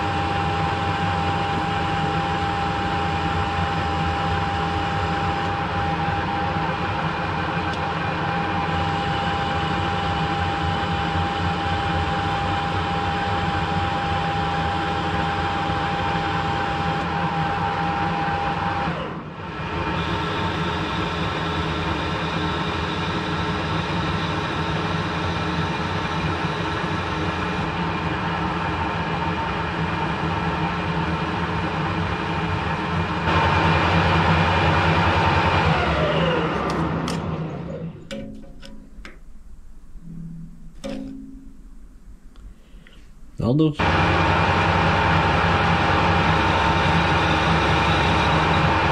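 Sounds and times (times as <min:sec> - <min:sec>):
metal lathe whining: 0:00.0 - 0:29.0, 0:33.3 - 0:41.3, 0:43.8 - 0:48.9.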